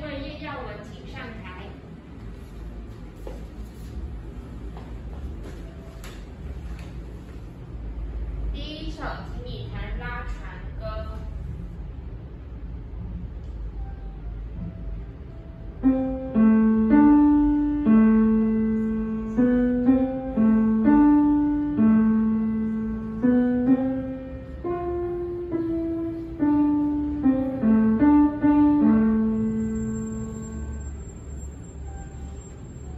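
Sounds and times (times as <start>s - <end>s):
slow piano melody: 1.8s - 8.4s, 11.4s - 32.9s.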